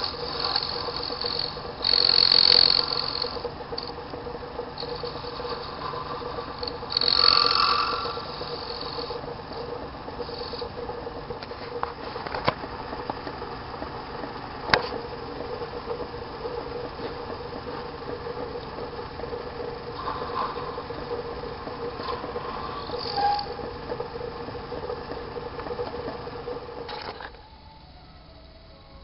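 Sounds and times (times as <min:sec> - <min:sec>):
tool scraping spinning piece: 0:00.0 - 0:27.4
lathe humming: 0:00.0 - 0:29.0.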